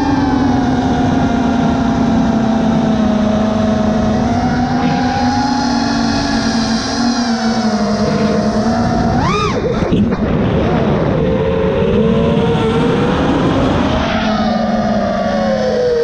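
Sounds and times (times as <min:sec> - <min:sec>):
drone motors whining: 0:00.0 - 0:16.0
low rushing noise: 0:00.0 - 0:16.0.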